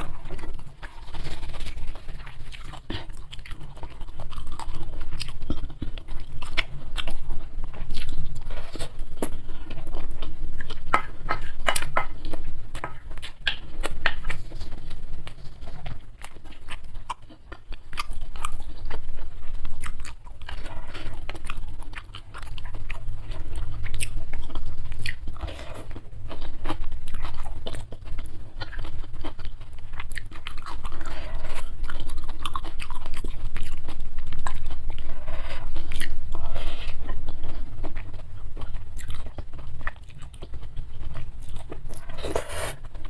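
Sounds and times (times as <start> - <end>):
person chewing crunchy food: 0.0 - 43.0.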